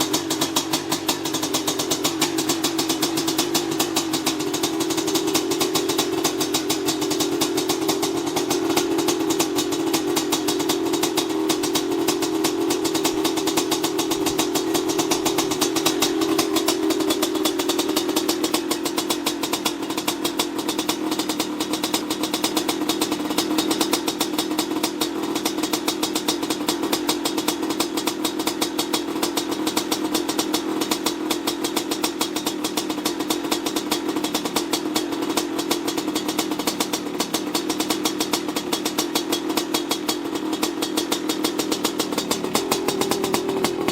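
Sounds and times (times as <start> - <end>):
two-stroke engine running: 0.0 - 43.9.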